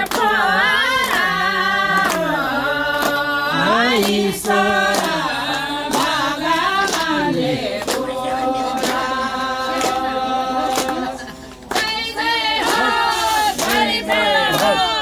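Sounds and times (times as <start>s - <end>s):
hands clapping to a beat: 0.0s - 15.0s
women singing in unison: 0.0s - 15.0s.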